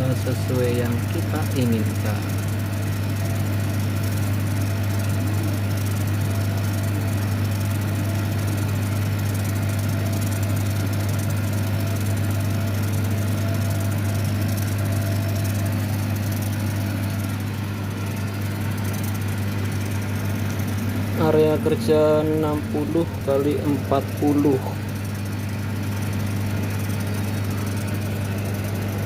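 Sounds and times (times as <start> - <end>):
low electrical machine hum: 0.0 - 29.0.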